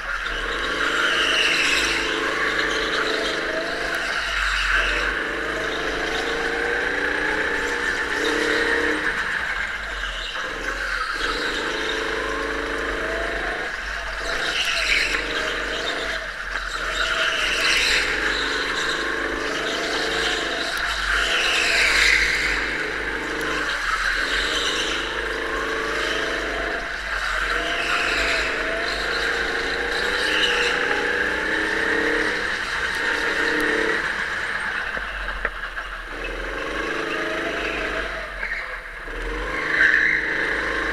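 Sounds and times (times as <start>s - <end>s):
go-kart motor: 0.0s - 40.9s
tyres squealing: 0.0s - 40.9s.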